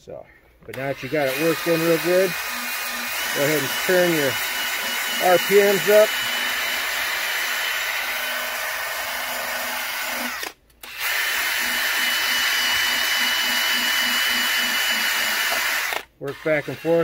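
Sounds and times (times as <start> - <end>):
cordless drill spinning polishing pad: 0.7 - 17.0.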